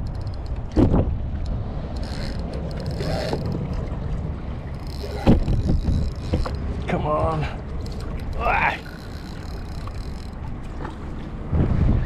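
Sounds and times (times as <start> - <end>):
water sounds: 0.0 - 12.0
wind buffeting microphone: 0.0 - 12.0.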